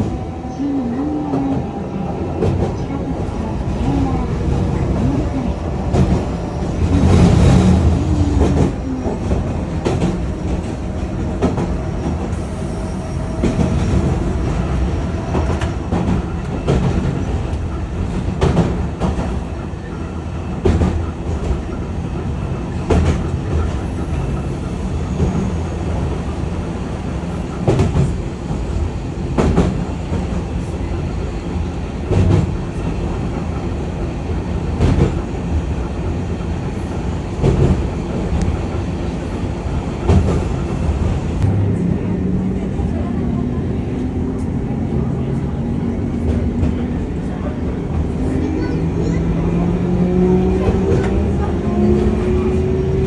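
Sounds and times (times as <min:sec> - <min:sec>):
streetcar rumbling on track: 0:00.0 - 0:53.0.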